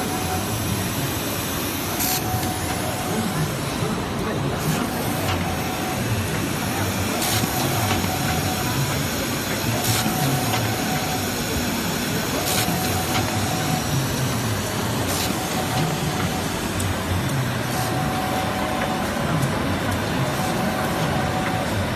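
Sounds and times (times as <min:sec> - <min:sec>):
machine mechanical clatter: 0:01.7 - 0:21.9.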